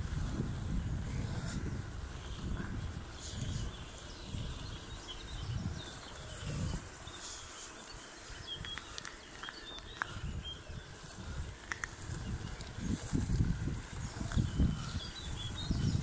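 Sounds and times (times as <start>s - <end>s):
wind buffeting microphone: 0.0s - 7.5s, 8.3s - 16.0s
birds chirping and calling: 1.1s - 16.0s.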